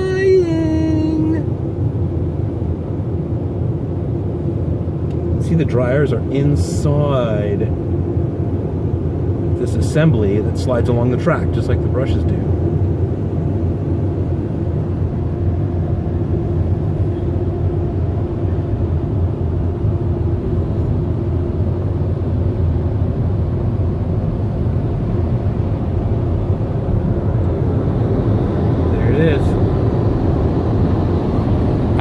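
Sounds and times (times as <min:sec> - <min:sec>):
car wash blower dryers rumbling: 0:00.0 - 0:32.0.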